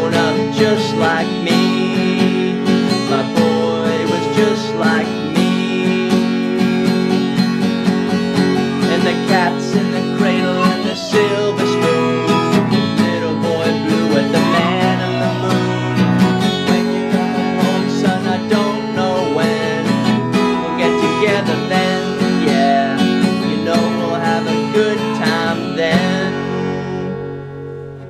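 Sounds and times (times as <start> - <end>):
acoustic guitar strummed chords: 0.0 - 28.0.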